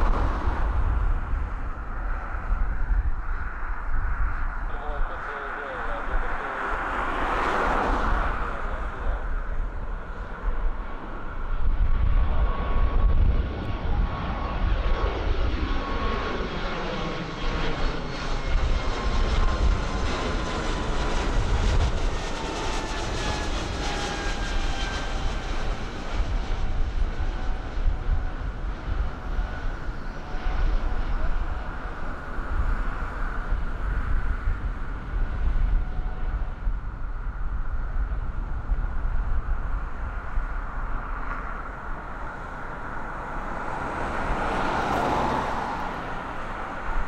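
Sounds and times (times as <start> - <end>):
jet airliner taking off: 0.0 - 47.0.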